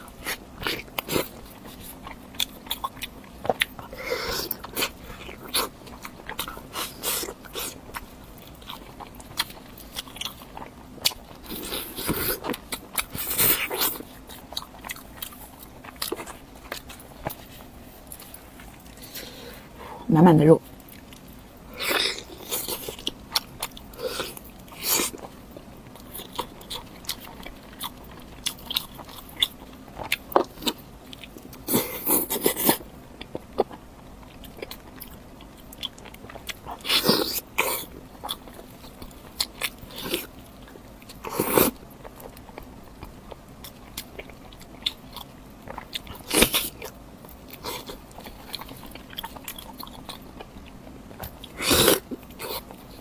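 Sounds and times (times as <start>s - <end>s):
chewing meat: 0.0s - 53.0s.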